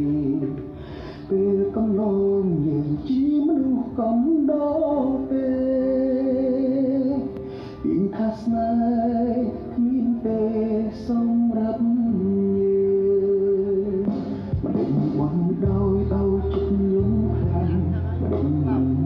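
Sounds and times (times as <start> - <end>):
song with singing voice: 0.0 - 19.0.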